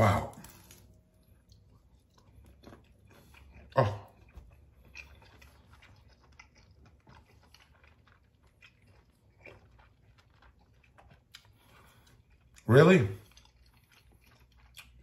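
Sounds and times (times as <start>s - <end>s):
faint chewing: 0.2s - 15.0s.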